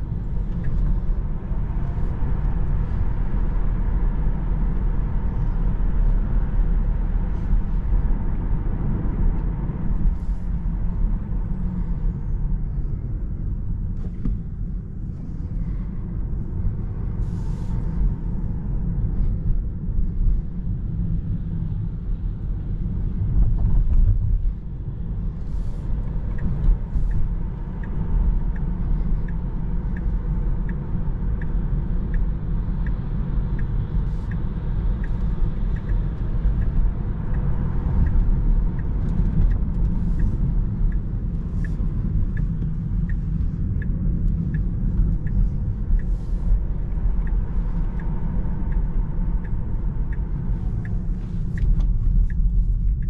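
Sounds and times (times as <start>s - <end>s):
road and tyre rumble in car: 0.0s - 53.0s
turn signal ticking: 0.1s - 12.6s, 22.6s - 53.0s.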